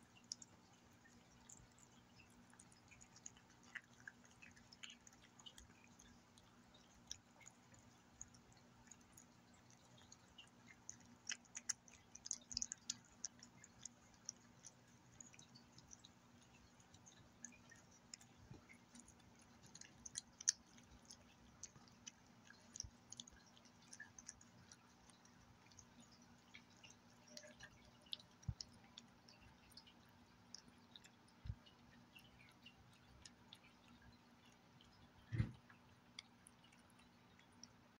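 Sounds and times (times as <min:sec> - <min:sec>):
cat licking and chewing: 0:00.0 - 0:38.0.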